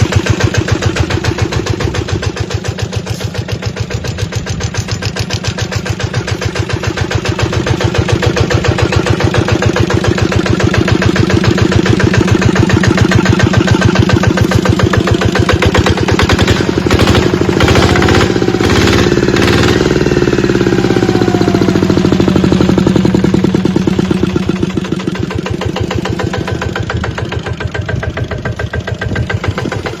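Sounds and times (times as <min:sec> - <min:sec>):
sharp engine knocks: 0:00.0 - 0:20.0, 0:23.0 - 0:30.0
diesel engine running: 0:00.0 - 0:30.0.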